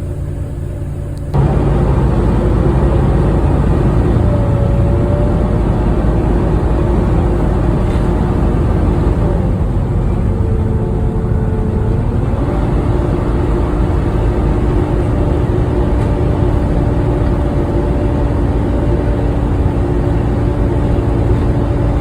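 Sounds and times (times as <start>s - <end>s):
bus engine rumble: 0.0s - 22.0s
bus whining: 0.0s - 22.0s.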